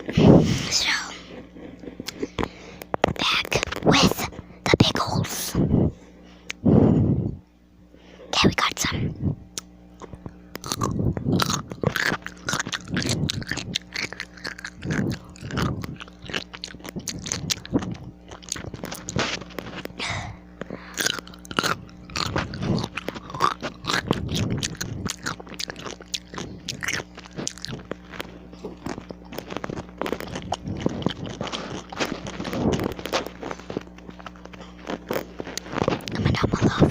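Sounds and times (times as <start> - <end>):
pickle crunching and chewing: 0.0 - 5.3, 9.5 - 36.9.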